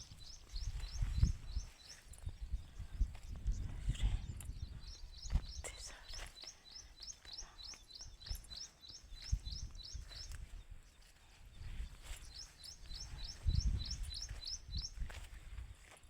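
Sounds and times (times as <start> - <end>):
small bird chirping: 0.0 - 15.4.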